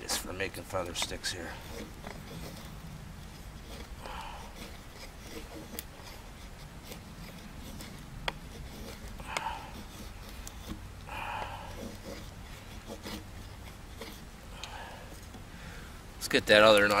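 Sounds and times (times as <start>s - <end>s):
knife scraping wood: 0.0s - 15.5s
blade clicking on wood: 0.8s - 15.5s.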